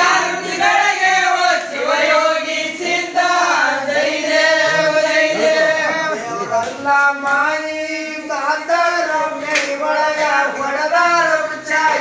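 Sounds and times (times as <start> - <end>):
group singing a hymn: 0.0 - 12.0.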